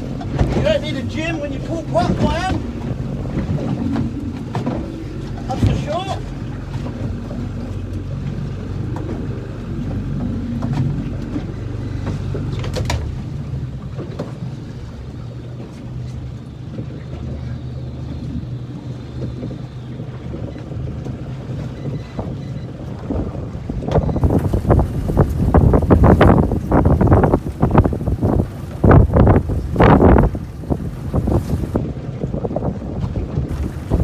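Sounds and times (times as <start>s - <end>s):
boat engine humming: 0.0s - 34.0s
wind over microphone: 0.0s - 34.0s.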